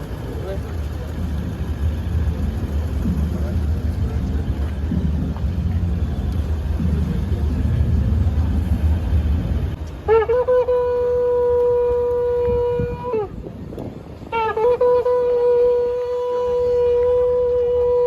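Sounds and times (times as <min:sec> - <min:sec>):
low crowd rumble: 0:00.0 - 0:18.0
horn long steady note: 0:00.1 - 0:18.0.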